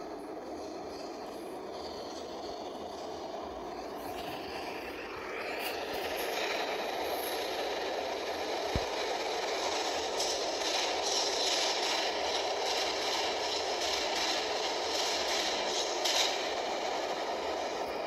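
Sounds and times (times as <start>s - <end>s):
faint high train squeals: 0.0s - 18.0s
subway train rumbling in tunnel: 0.0s - 18.0s.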